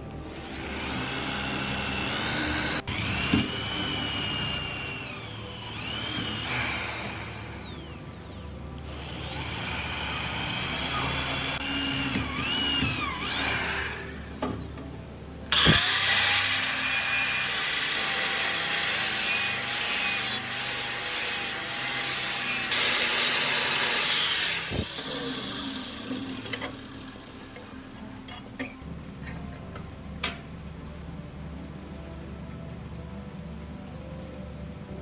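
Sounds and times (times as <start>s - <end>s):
power tool motor whining: 0.0s - 28.0s.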